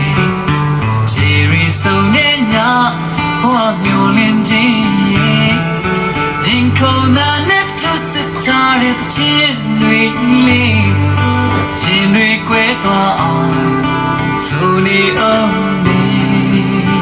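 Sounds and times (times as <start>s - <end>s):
bass line: 0.0s - 17.0s
guitar: 0.0s - 17.0s
person singing: 0.0s - 17.0s.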